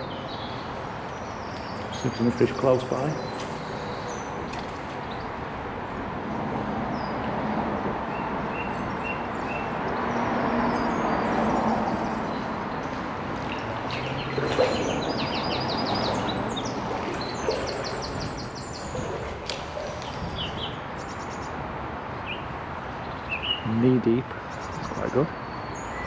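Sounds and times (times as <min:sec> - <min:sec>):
small songbirds calling: 0:00.0 - 0:05.5, 0:08.1 - 0:21.6, 0:22.2 - 0:26.0
outdoor noise: 0:00.0 - 0:26.0.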